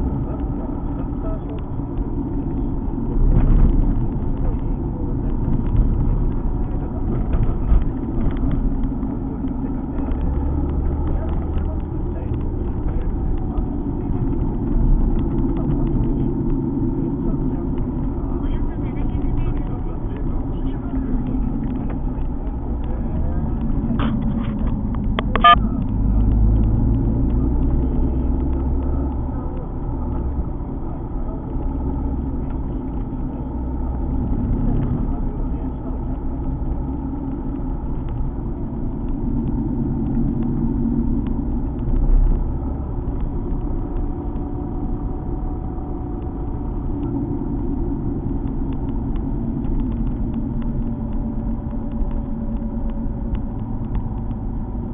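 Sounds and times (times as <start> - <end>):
car engine running: 0.0 - 54.9
road and tyre rumble: 0.0 - 54.9.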